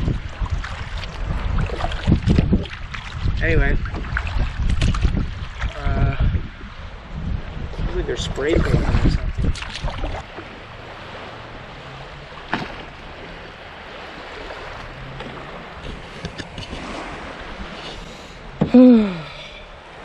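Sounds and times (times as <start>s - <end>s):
wind noise on microphone: 0.0s - 11.0s, 11.7s - 20.0s
lake water lapping: 0.0s - 20.0s.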